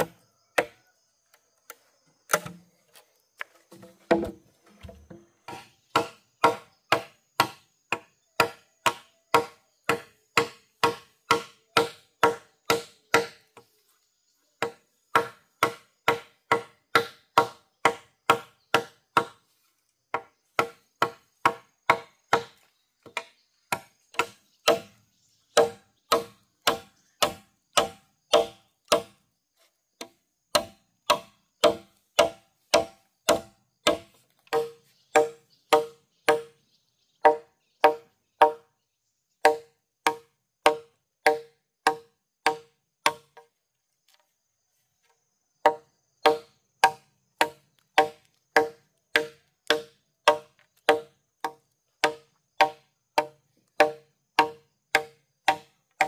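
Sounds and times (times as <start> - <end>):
hollow strikes on bamboo: 0.0 - 0.9, 1.7 - 13.7, 14.6 - 19.5, 20.1 - 29.2, 29.9 - 36.6, 37.2 - 38.8, 39.4 - 44.2, 45.1 - 56.0.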